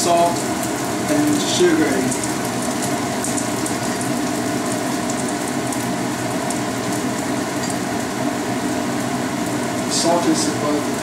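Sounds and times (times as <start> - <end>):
meat sizzling in pan: 0.0 - 11.0.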